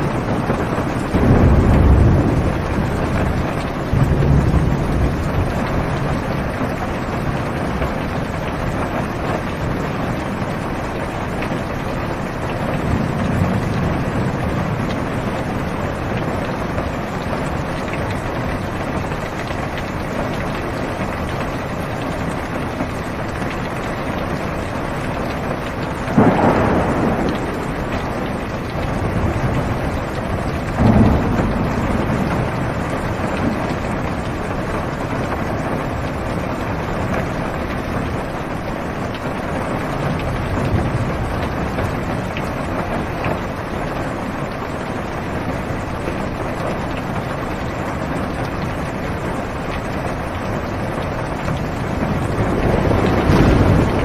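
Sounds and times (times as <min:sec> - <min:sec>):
thunder: 0:00.0 - 0:20.6, 0:25.4 - 0:44.5, 0:49.8 - 0:54.0
heavy rain drumming on car roof: 0:00.0 - 0:54.0.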